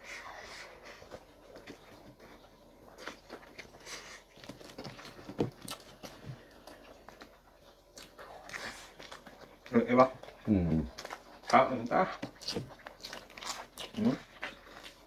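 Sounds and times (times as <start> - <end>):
chewing and biting: 0.1 - 15.0.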